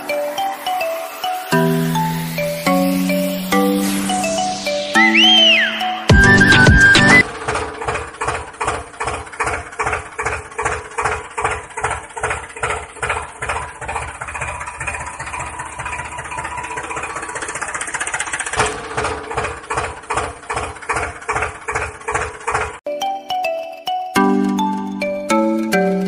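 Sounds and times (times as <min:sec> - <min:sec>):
tractor engine chugging: 0:00.0 - 0:22.9.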